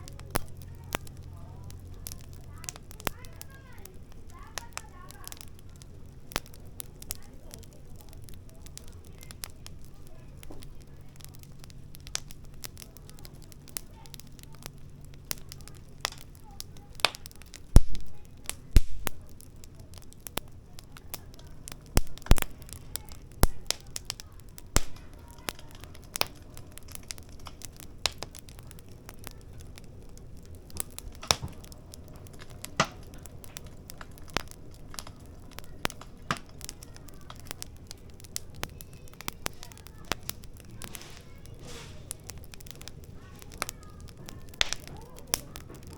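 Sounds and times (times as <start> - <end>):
firewood crackling and popping: 0.0 - 45.9.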